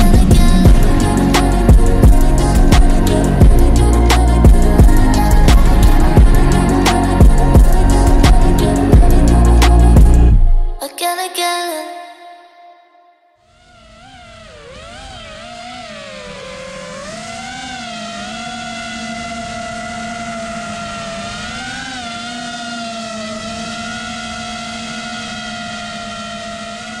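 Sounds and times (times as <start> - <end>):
drone motors whining: 0.0 - 10.8, 13.5 - 27.0.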